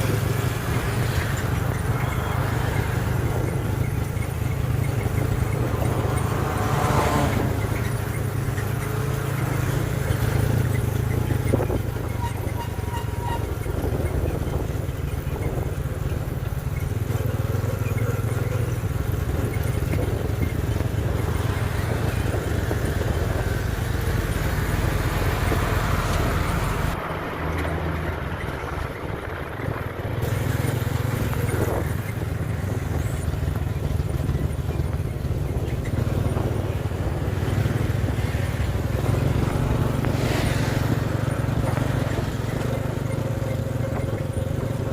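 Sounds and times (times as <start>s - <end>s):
road and wind noise: 0.0s - 44.9s
vehicle engine running: 0.0s - 44.9s.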